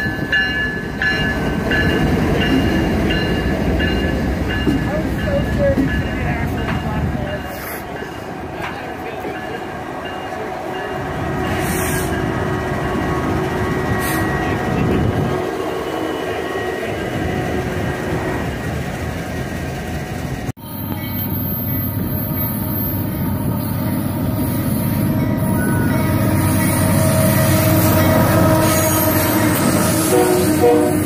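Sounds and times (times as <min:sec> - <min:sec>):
train wheels rolling on rails: 0:00.0 - 0:31.0
diesel locomotive engines running: 0:01.4 - 0:31.0.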